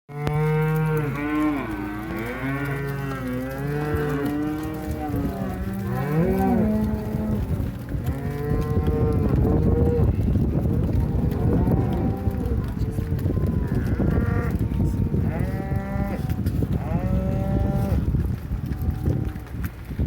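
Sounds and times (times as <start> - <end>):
cattle mooing: 0.1 - 18.0.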